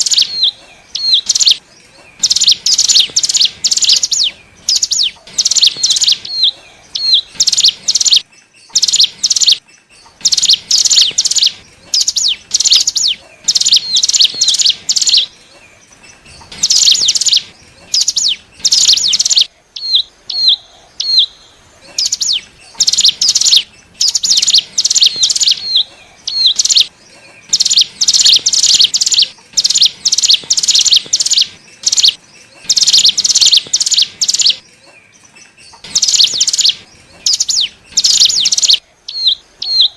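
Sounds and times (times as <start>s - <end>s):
bird scratchy chirps: 0.0s - 39.9s.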